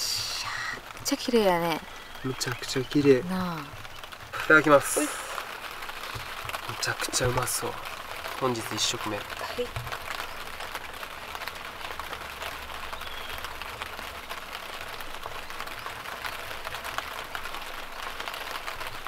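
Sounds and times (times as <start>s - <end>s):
rain pattering: 0.0s - 19.0s.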